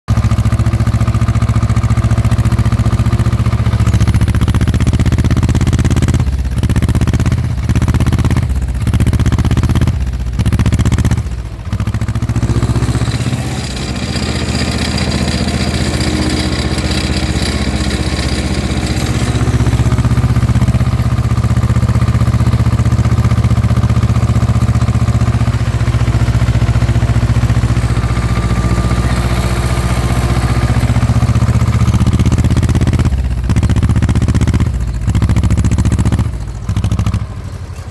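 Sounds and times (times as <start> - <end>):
tractor diesel engine running: 0.1 - 37.9.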